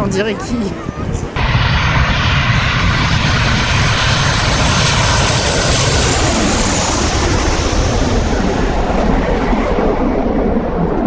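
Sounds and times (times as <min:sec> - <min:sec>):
airplane engine in flight: 0:00.0 - 0:11.0.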